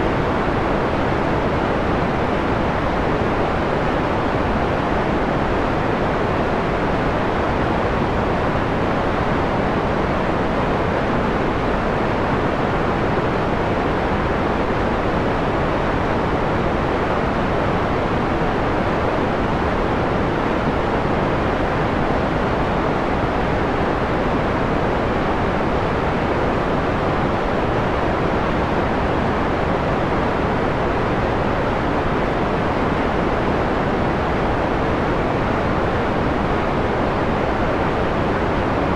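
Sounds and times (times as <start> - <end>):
muffled white noise hiss: 0.0 - 38.9.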